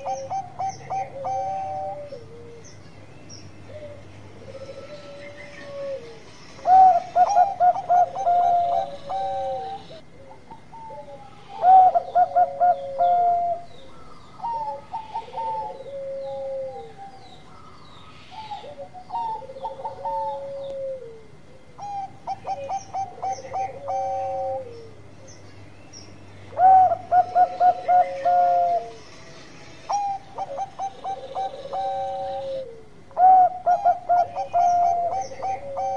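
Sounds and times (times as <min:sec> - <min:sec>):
dove cooing: 0:00.0 - 0:02.8, 0:03.7 - 0:25.4, 0:26.5 - 0:29.0, 0:29.9 - 0:35.9.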